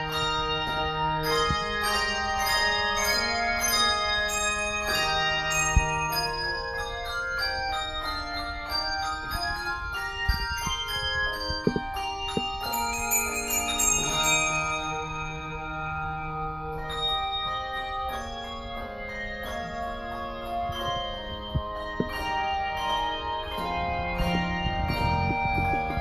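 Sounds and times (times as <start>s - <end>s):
handbell choir ringing: 0.0s - 26.0s.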